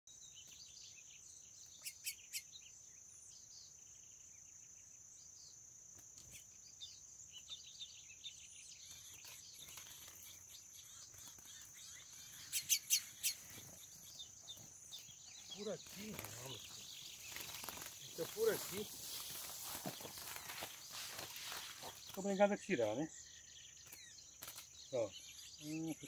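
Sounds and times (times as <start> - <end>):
faint bird twittering: 0.1 - 26.0.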